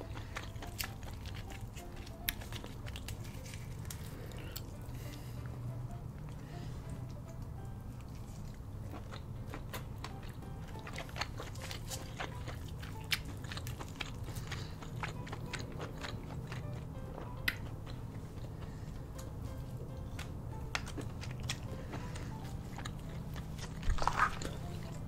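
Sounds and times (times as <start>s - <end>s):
chewing and wet mouth sounds: 0.0s - 25.0s.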